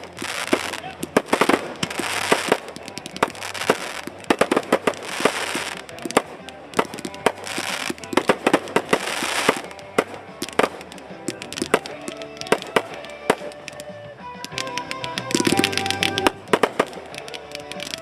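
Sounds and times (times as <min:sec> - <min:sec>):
hissing crackle bursts: 0:00.0 - 0:13.9, 0:14.5 - 0:18.0
fireworks bangs and pops: 0:00.0 - 0:18.0
music: 0:00.0 - 0:18.0.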